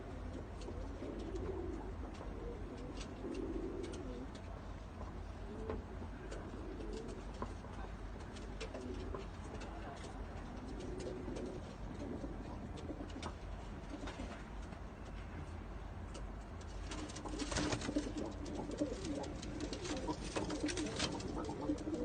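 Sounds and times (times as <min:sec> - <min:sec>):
pigeons cooing: 0:00.0 - 0:14.5, 0:16.7 - 0:22.0.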